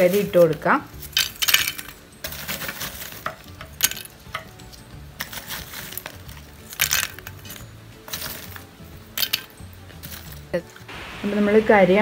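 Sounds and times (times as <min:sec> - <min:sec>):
charcoal lumps clinking in clay pot: 0:00.0 - 0:10.9.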